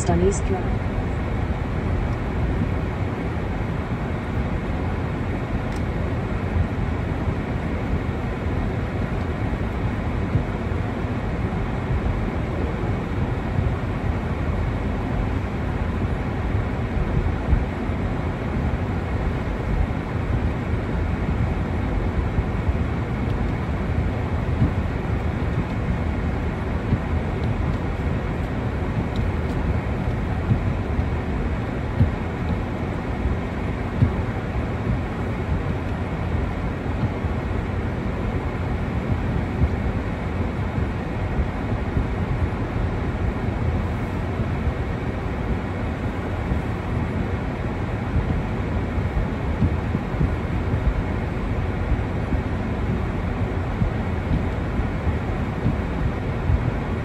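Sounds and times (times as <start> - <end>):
car cabin road and engine rumble: 0.0 - 57.0.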